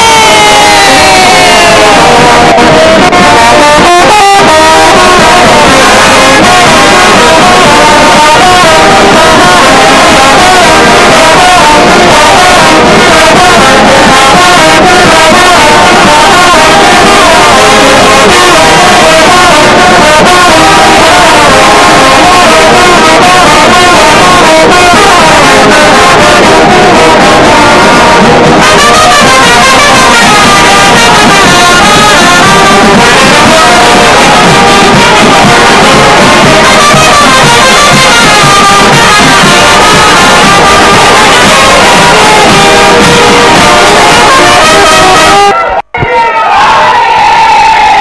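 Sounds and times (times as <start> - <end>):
brass band playing loudly: 0.0 - 48.0.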